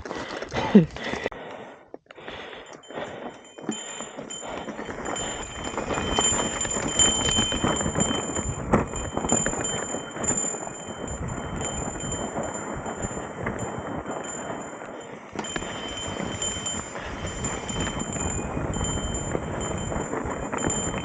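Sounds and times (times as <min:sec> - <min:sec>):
thin high whine: 0:02.9 - 0:21.0
bike rattling over rocks: 0:03.1 - 0:21.0.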